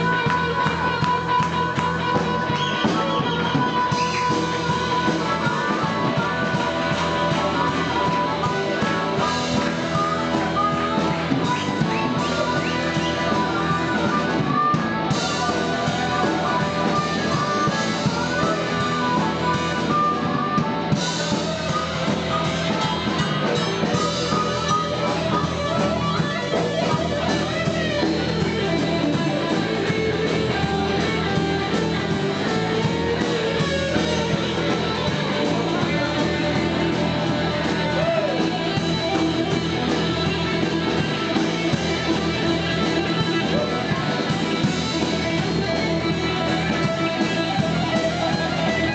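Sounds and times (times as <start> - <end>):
drum kit: 0.0 - 48.9
guitar: 0.0 - 48.9.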